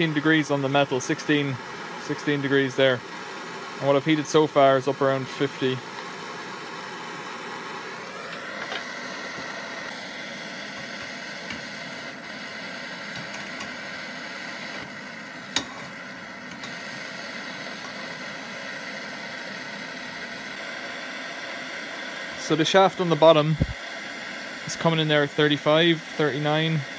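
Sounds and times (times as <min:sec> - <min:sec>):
blowtorch hissing: 0:00.0 - 0:26.9.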